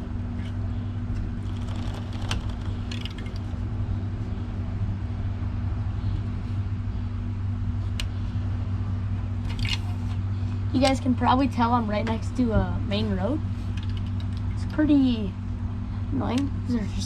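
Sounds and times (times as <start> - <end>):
road traffic drone: 0.0 - 17.0.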